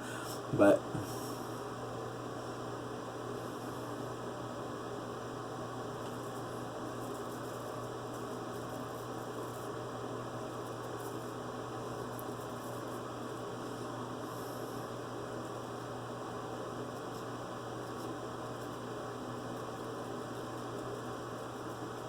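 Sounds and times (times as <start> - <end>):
electrical hum and hiss: 0.0 - 22.0.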